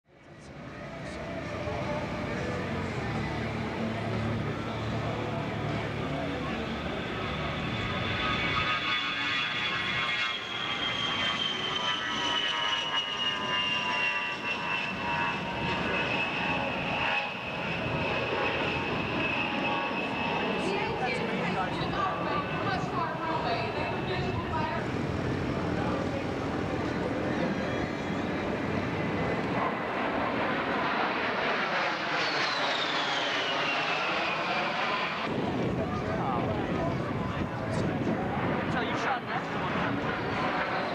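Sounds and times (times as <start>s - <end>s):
aircraft engine whining: 0.3s - 40.9s.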